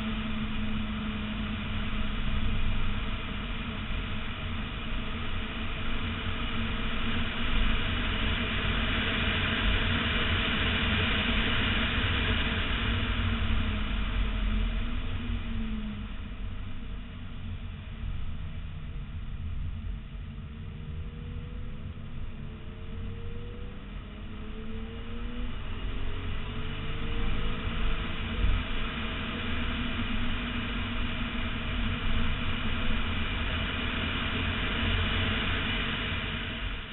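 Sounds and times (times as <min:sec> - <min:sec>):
car engine at speed: 0:00.0 - 0:36.9
wind and wet road rush: 0:00.0 - 0:36.9.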